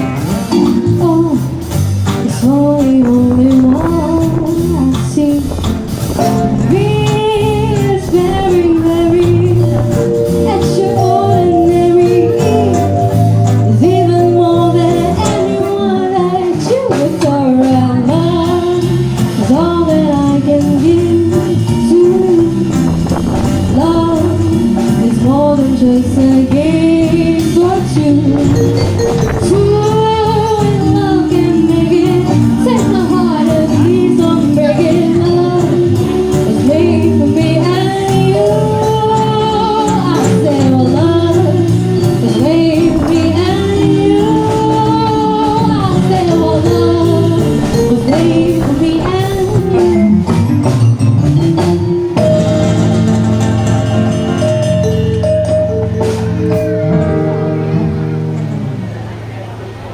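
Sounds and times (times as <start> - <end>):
woman singing lead vocal: 0.0 - 50.4
live band playing upbeat song: 0.0 - 59.9.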